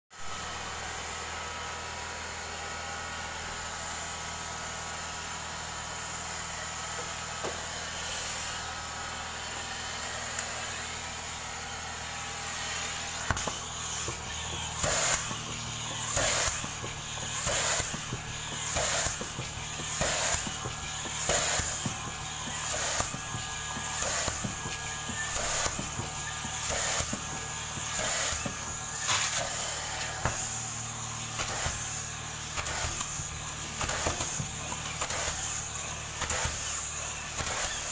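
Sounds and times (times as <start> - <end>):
cleaning machine running: 0.2 - 37.9.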